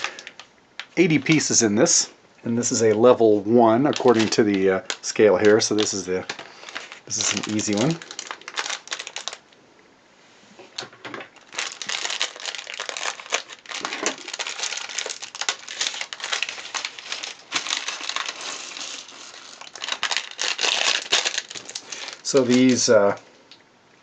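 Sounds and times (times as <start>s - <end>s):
plastic packaging crinkling: 0.0s - 1.6s, 2.8s - 9.6s, 11.0s - 23.2s.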